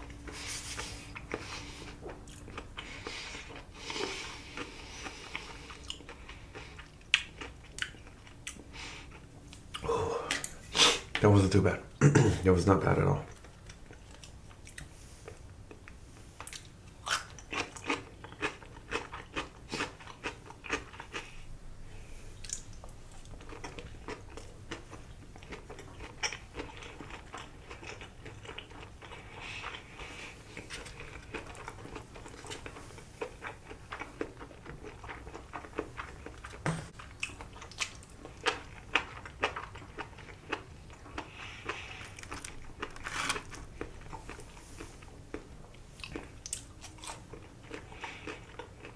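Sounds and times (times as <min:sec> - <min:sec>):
person chewing with crunches: 0:00.0 - 0:11.2, 0:13.3 - 0:48.9.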